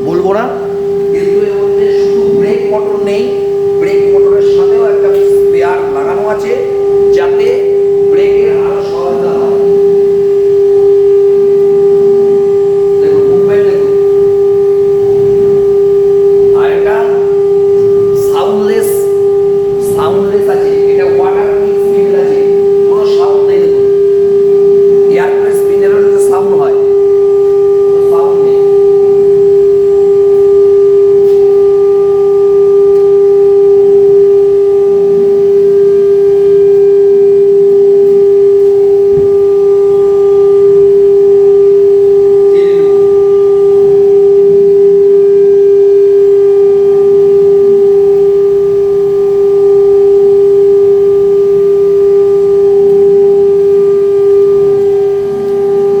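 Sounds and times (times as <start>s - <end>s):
router spindle whine: 0.0s - 56.0s.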